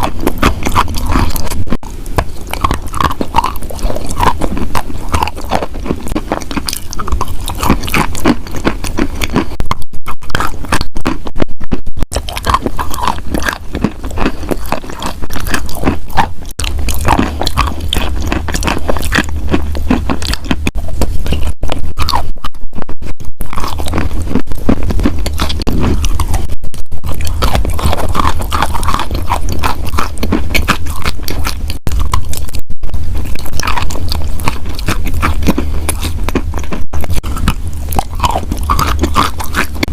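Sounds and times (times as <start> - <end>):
chalk crunching being chewed: 0.0 - 22.6, 23.4 - 39.9.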